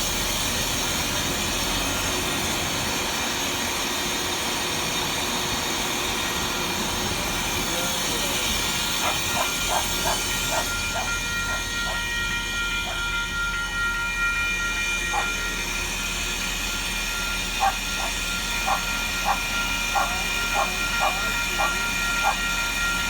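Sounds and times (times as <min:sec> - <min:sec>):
diesel railcar humming: 0:00.0 - 0:23.0.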